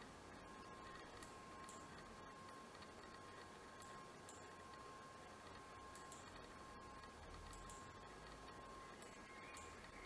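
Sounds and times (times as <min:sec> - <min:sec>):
thin steady hum: 0:00.0 - 0:10.0.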